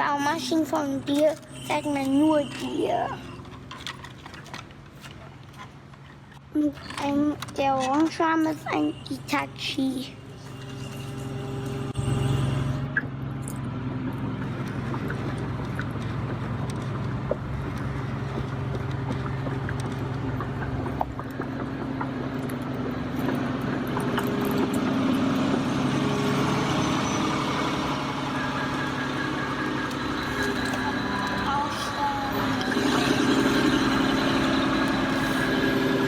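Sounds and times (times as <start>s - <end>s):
model excavator mechanical hum: 0.0s - 36.0s.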